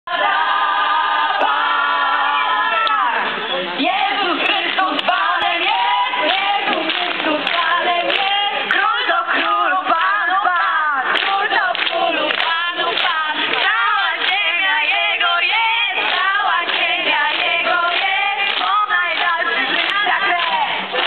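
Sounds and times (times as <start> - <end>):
group singing in chorus: 0.1 - 21.0
people clapping: 0.1 - 21.0.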